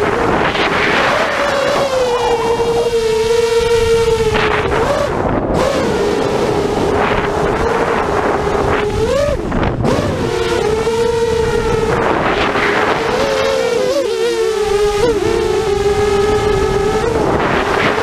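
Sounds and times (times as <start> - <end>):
model aircraft motor whining: 0.0 - 18.0
wind rushing over microphone: 0.0 - 18.0.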